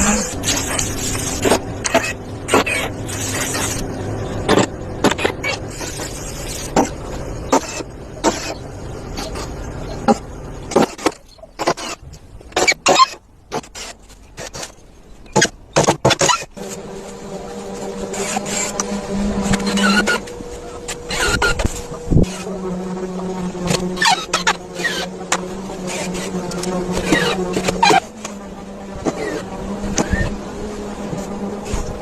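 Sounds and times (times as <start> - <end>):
steady background noise: 0.0 - 32.0.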